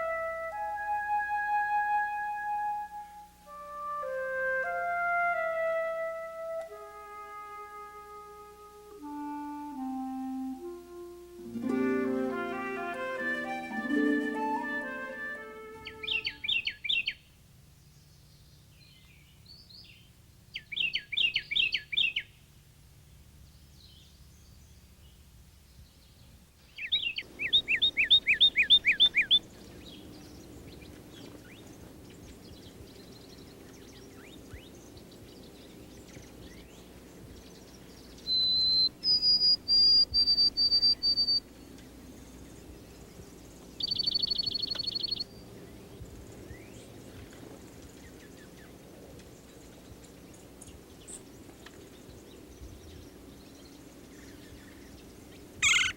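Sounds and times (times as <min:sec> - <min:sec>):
songbirds singing: 0:09.1 - 0:55.9.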